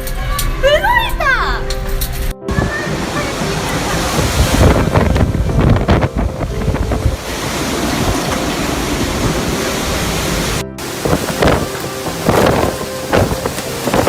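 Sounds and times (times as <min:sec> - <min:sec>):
storm wind buffeting microphone: 0:02.4 - 0:14.0.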